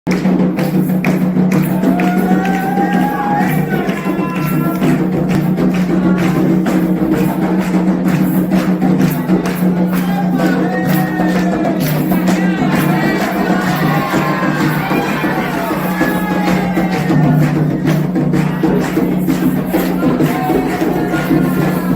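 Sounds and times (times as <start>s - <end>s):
hand drums beating fast rhythm: 0.1s - 21.9s
group chanting: 1.5s - 21.9s.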